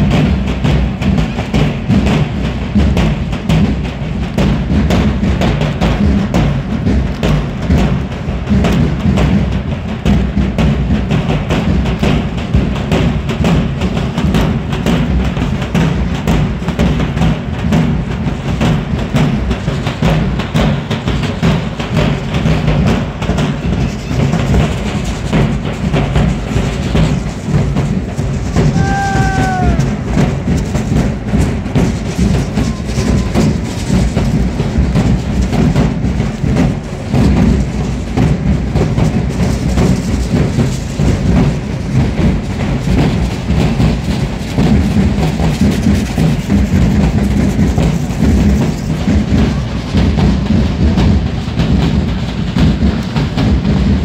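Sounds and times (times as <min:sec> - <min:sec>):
bass drums beating dance rhythm: 0:00.0 - 0:54.0
clatter of strikes: 0:00.0 - 0:54.0.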